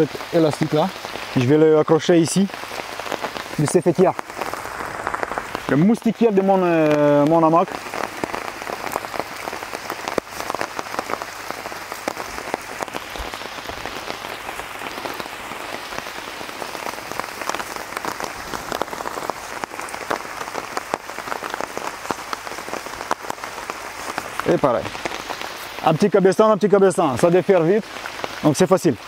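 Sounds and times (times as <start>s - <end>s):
rain pattering on a tarp: 0.0s - 29.0s.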